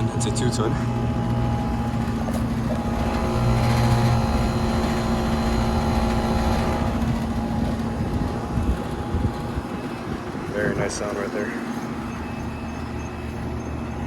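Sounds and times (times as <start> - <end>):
condenser fan whoosh: 0.0 - 12.6
compressor hum: 0.0 - 14.0.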